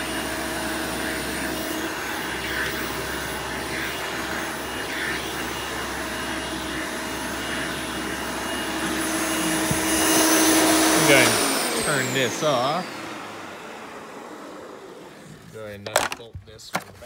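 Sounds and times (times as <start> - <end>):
vacuum cleaner motor whine: 0.0 - 16.9.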